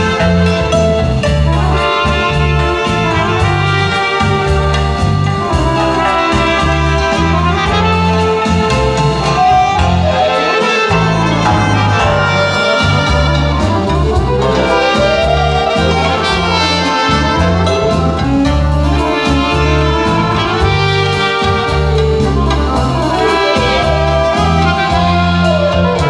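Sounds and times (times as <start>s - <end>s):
brass horns melody: 0.0s - 26.0s
live band playing: 0.0s - 26.0s.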